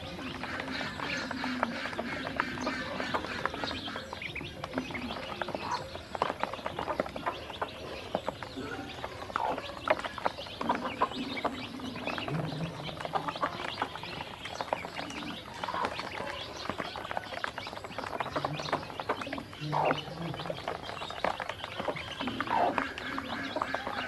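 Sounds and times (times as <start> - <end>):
ducklings' bills clicking and slapping: 0.0 - 24.0
ducklings' low calls: 0.0 - 24.0.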